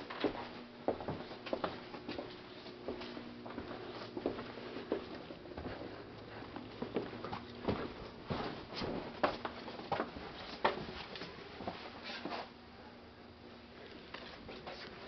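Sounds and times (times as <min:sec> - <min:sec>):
footsteps on floor: 0:00.0 - 0:12.5
faint steady hum: 0:00.0 - 0:15.0.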